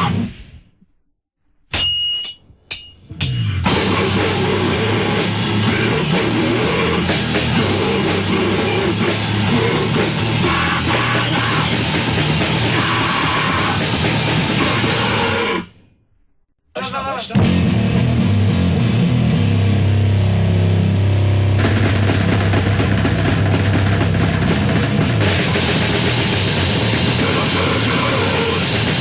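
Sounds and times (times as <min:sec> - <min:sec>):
heavy distorted band music: 0:03.2 - 0:15.8, 0:16.8 - 0:29.0.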